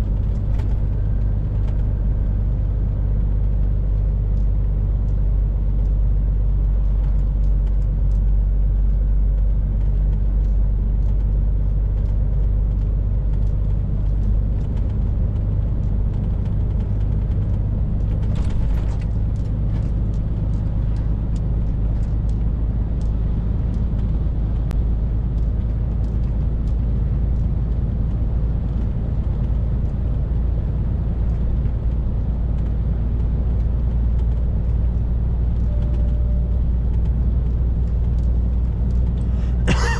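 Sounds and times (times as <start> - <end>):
diesel lorry engine droning: 0.0 - 39.9
road noise: 0.0 - 39.9.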